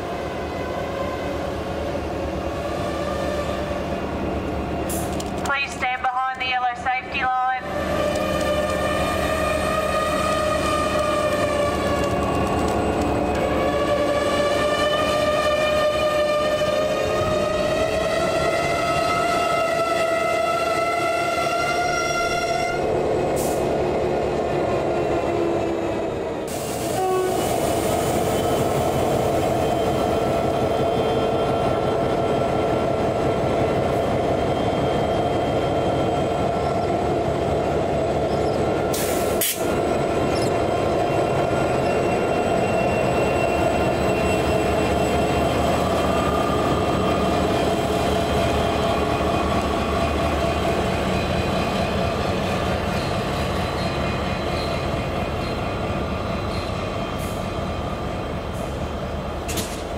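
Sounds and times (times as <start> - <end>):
rail and wheel noise: 0.0 - 59.9.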